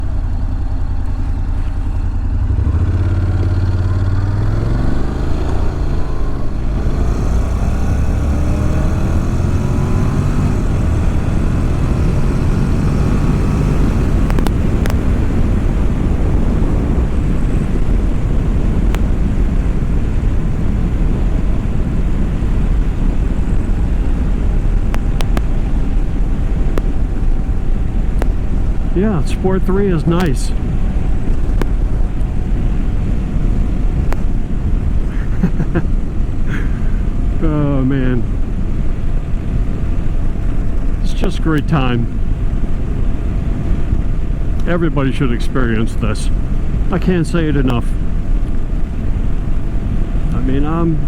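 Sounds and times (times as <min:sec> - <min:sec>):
motorcycle engine accelerating: 0:00.0 - 0:51.0
wind noise: 0:00.0 - 0:51.0.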